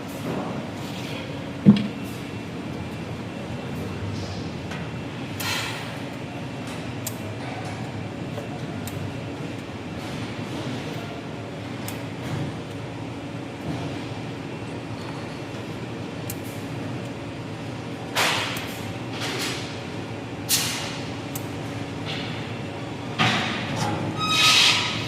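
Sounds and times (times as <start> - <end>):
workshop machine hum: 0.0 - 25.0.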